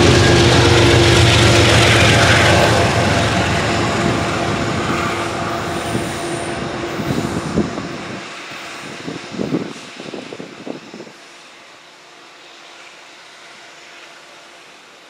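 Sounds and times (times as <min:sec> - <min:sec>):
passenger train rumbling past: 0:00.0 - 0:15.0.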